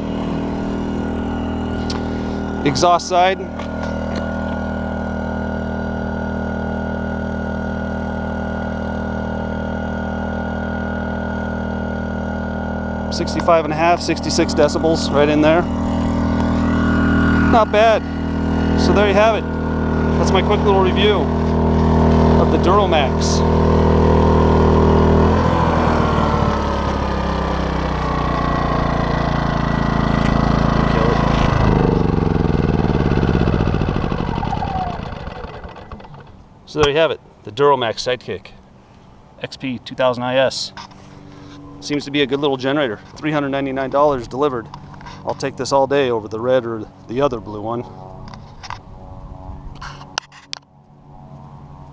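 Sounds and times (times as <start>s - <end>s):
generator engine running: 0.0s - 51.9s.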